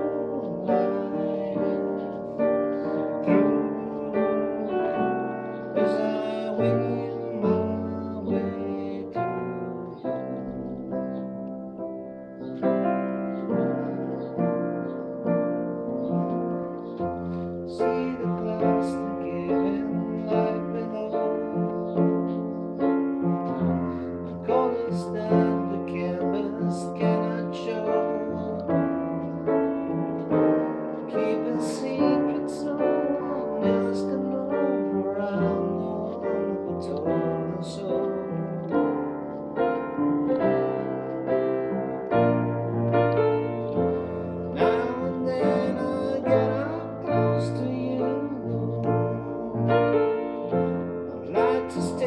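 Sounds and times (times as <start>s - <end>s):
slow piano piece: 0.0s - 52.0s.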